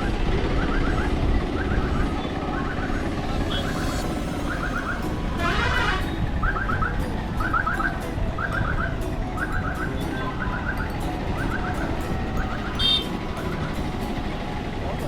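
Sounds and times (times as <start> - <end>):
electronic alarm chirping: 0.0 - 14.4
steady low rumble: 0.0 - 15.0.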